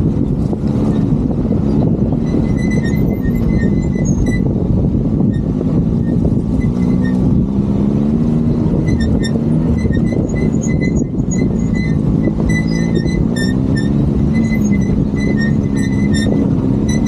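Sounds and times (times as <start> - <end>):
vehicle engine running: 0.0 - 17.0
short high squeaks: 0.9 - 4.5, 5.3 - 7.3, 8.6 - 17.0.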